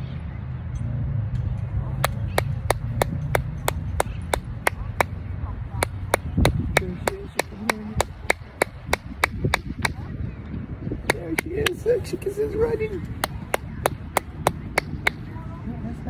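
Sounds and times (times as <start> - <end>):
low wind rumble: 0.0 - 16.0.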